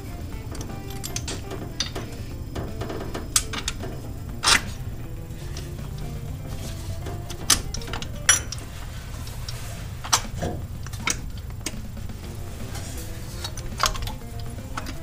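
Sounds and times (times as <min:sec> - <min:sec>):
metallic clicks and knocks: 0:00.0 - 0:15.0
steady low hum: 0:00.0 - 0:15.0.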